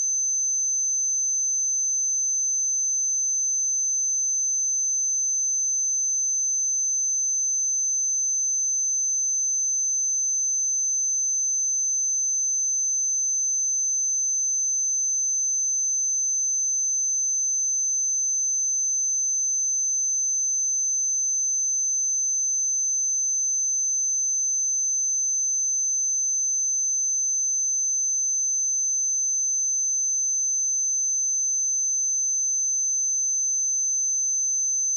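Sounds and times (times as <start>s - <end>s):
high-pitched sine test tone: 0.0s - 34.9s.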